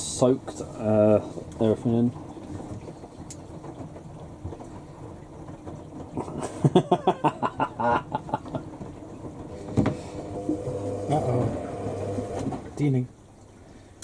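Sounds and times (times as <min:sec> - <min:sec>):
washing machine drums tumbling: 0:00.0 - 0:14.0.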